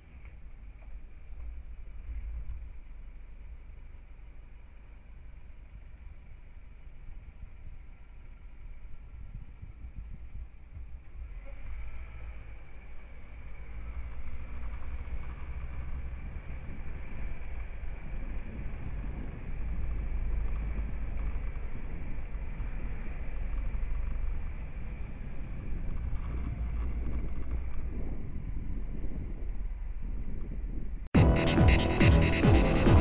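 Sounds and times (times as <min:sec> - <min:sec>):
vehicle engine and tyres rumbling: 0:00.0 - 0:33.0.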